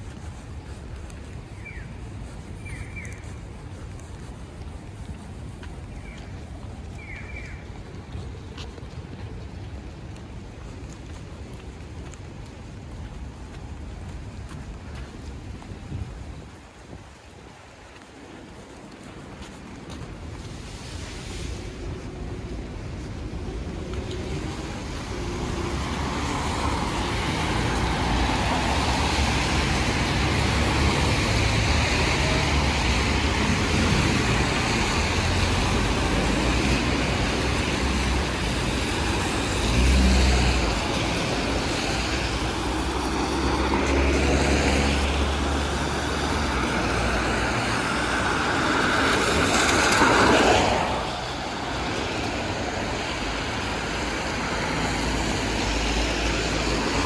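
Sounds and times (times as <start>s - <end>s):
tyre hiss on wet road: 0.0s - 57.0s.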